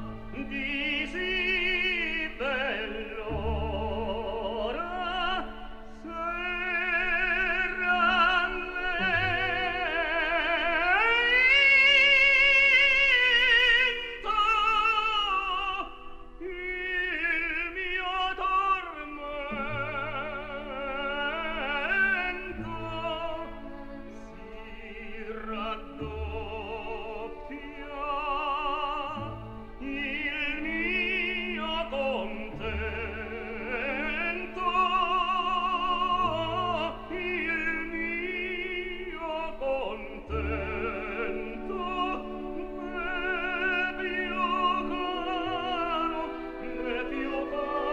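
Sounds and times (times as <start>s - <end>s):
operatic singing: 0.0s - 47.9s.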